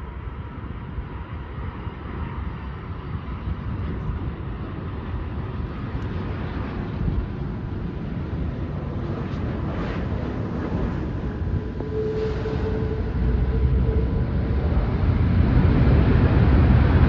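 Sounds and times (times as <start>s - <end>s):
jet engine noise: 0.0s - 17.0s
wind buffeting microphone: 0.0s - 17.0s.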